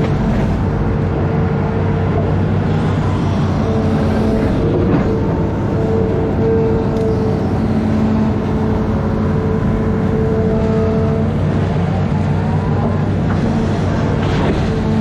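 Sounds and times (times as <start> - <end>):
diesel engine running: 0.0 - 15.0
rising whine: 0.0 - 15.0.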